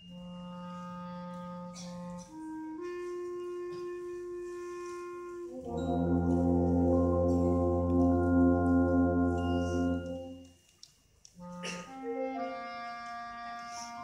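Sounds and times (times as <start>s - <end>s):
low brass: 0.0s - 10.5s, 11.4s - 14.0s
wind band playing sustained chords: 0.0s - 10.5s, 11.4s - 14.0s.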